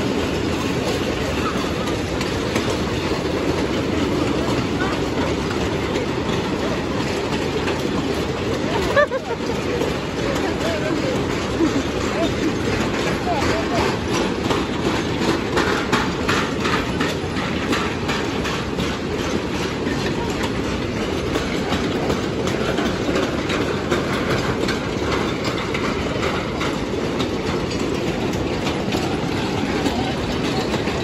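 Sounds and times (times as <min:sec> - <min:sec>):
clicking over rail joints: 0:00.0 - 0:31.0
steel wheels rumbling on rail: 0:00.0 - 0:31.0.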